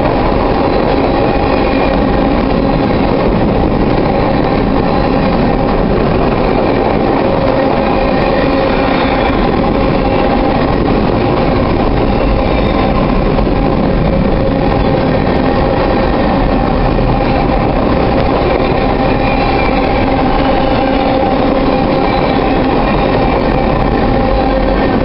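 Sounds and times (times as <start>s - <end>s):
steady tone: 0.0s - 25.0s
steel wheels on rail: 0.0s - 25.0s.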